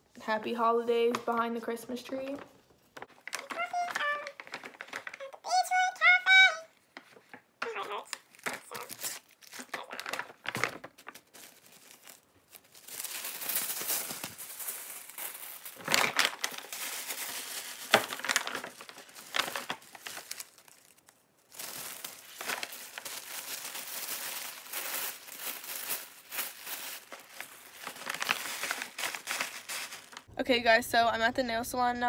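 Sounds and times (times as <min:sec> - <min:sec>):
tissue paper crinkling: 0:03.0 - 0:05.4, 0:07.0 - 0:30.3.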